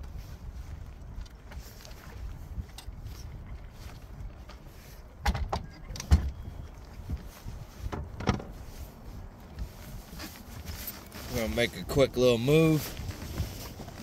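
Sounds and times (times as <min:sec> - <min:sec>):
wind rumbling on microphone: 0:00.0 - 0:12.0, 0:12.6 - 0:14.0.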